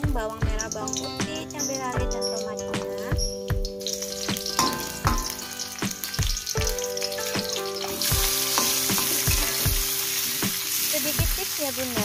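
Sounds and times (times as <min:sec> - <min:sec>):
background music with beat: 0:00.0 - 0:12.0
food sizzling in hot oil: 0:00.0 - 0:12.0.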